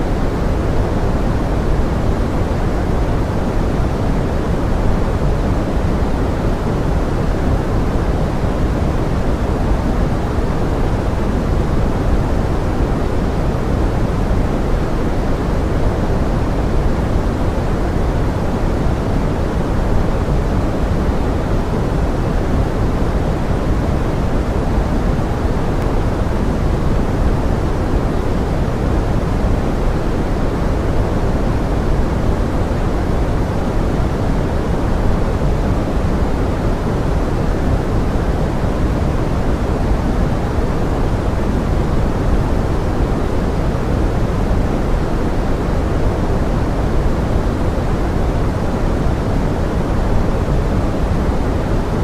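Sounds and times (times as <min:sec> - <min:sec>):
pink noise: 0:00.0 - 0:52.0.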